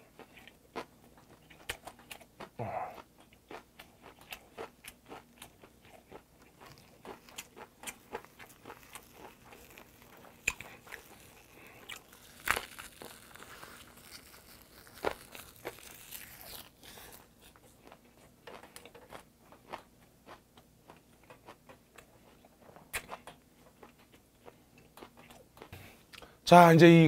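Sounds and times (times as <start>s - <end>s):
crunching and wet chewing: 0.0s - 26.4s
crisp bite of food: 0.2s - 22.1s.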